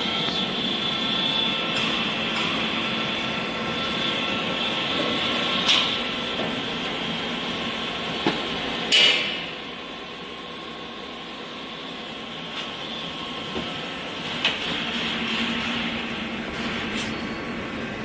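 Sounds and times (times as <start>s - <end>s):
lathe humming with high whine: 0.0s - 18.0s.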